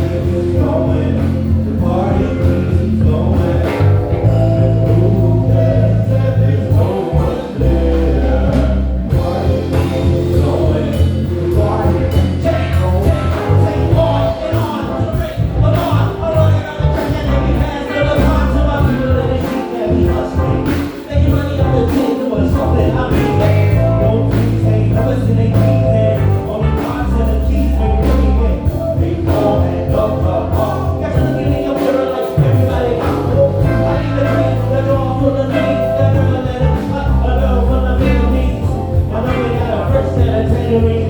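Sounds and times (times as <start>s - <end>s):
bass guitar low notes: 0.0s - 31.8s, 32.4s - 41.0s
drums keeping time: 0.0s - 41.0s
keyboards: 0.0s - 41.0s
lead melody: 0.0s - 41.0s.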